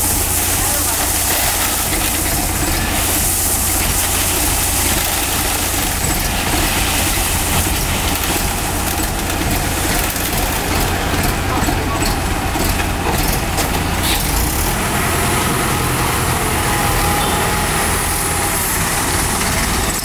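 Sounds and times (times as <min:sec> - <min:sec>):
tractor diesel engine rumbling: 0:00.0 - 0:20.0.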